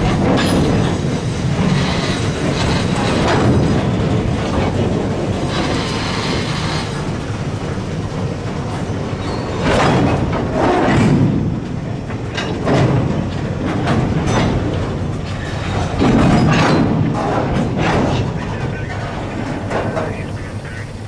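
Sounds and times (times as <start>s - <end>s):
boxcars rolling over track: 0.0s - 21.0s
diesel locomotive running: 0.0s - 21.0s
wheels clanking over rails: 0.0s - 21.0s.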